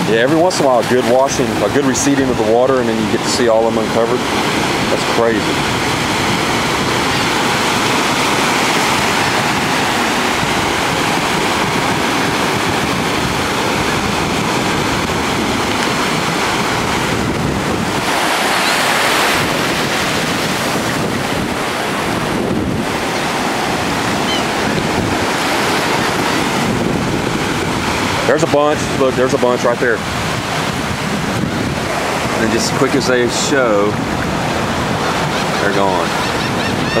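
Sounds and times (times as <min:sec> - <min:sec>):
surf washing over shallows: 0:00.0 - 0:37.0
wind on microphone: 0:00.0 - 0:37.0.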